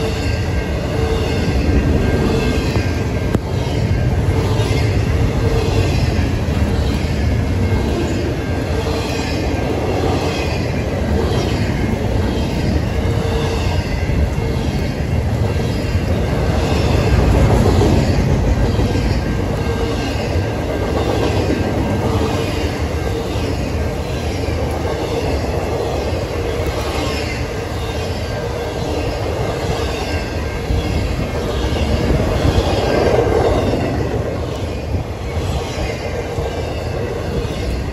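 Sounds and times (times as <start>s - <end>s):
freight train wheels rumbling: 0.0s - 37.9s.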